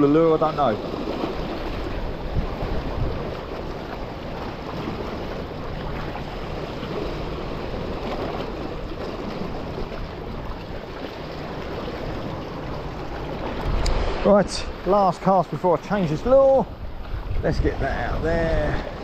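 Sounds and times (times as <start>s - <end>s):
sea washing against rocks: 0.0s - 19.0s.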